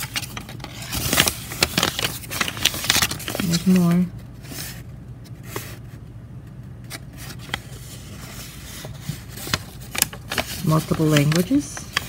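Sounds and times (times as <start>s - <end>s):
paper rustling: 0.0s - 6.0s, 6.8s - 12.0s
steady low hum: 0.0s - 12.0s.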